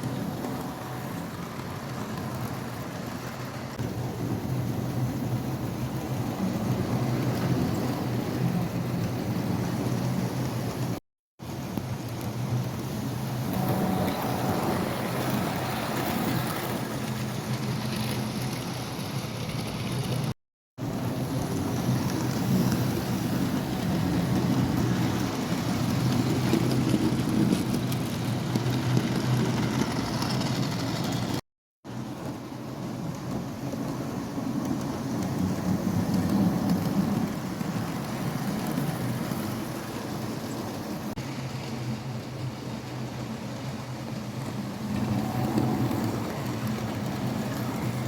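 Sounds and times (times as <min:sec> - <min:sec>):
model locomotives rumbling on track: 0:00.0 - 0:48.0.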